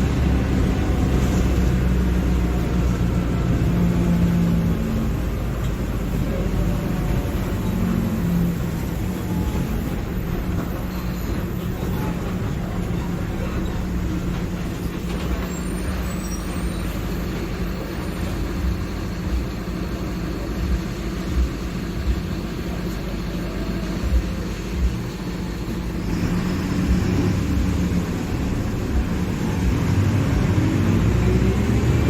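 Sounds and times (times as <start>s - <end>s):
diesel bus engine droning: 0.0s - 32.0s.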